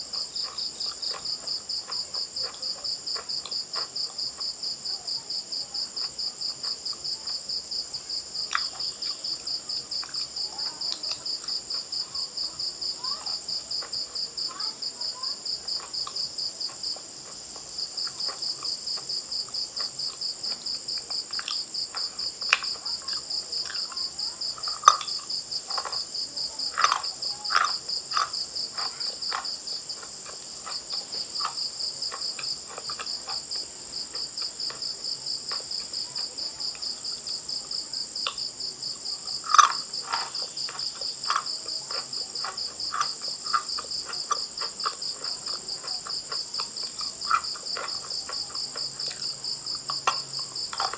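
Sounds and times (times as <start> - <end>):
crickets chirping: 0.0 - 50.9
crunching and chewing food: 0.0 - 50.9.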